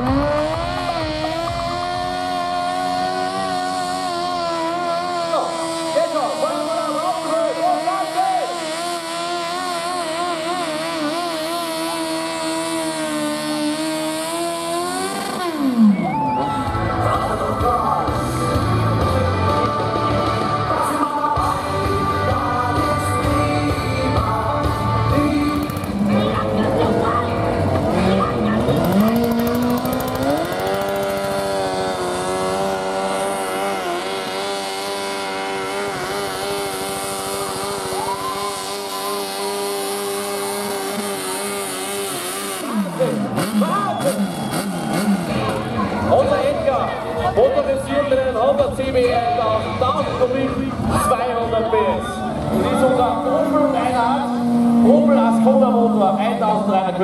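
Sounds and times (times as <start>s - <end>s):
engine running at high revs: 0.0s - 57.0s.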